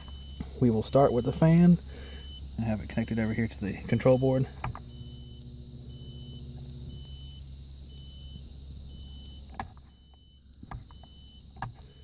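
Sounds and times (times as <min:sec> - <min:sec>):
heat pump electrical hum: 0:00.0 - 0:12.0.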